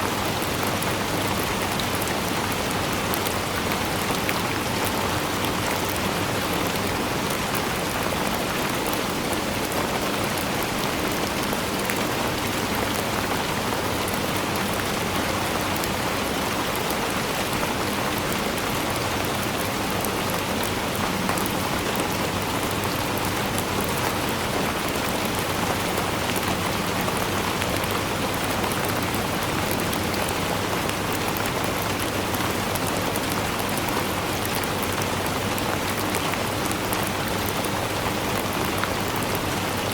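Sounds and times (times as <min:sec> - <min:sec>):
dense rain pattering: 0:00.0 - 0:39.9.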